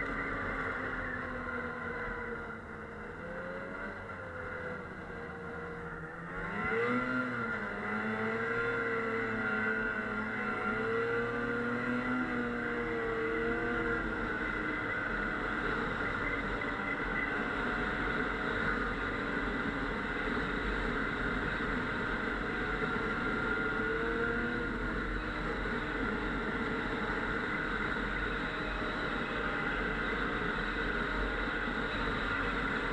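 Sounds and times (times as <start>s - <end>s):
snowmobile engine running: 0.0s - 32.9s.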